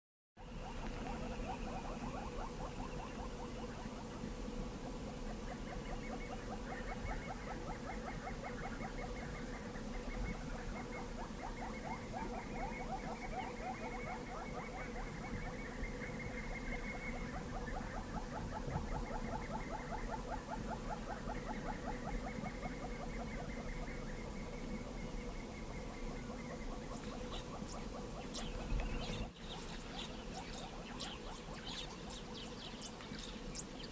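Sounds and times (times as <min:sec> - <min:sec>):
insects chirping: 0:00.4 - 0:33.9.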